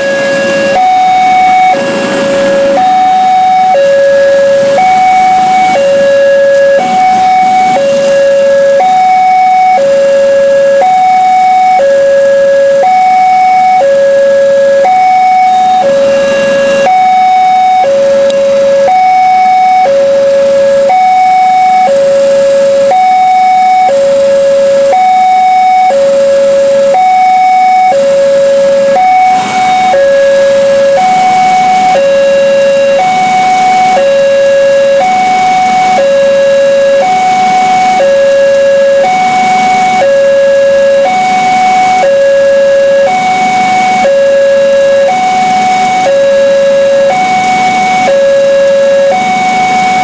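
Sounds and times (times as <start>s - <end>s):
constant rushing noise: 0.0s - 50.0s
two-tone warning siren: 0.0s - 50.0s.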